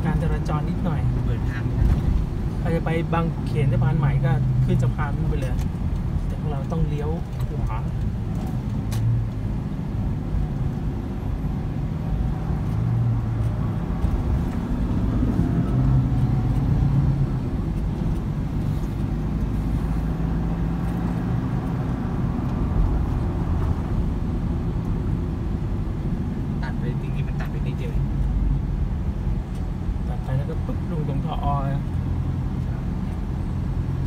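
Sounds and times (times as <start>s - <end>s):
car engine hum: 0.0s - 34.0s.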